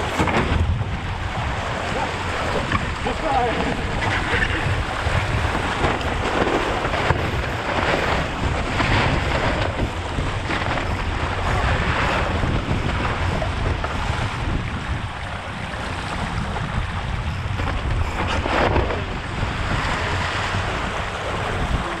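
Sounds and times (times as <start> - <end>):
water splashing along boat hull: 0.0 - 22.0
wind buffeting microphone: 0.0 - 22.0.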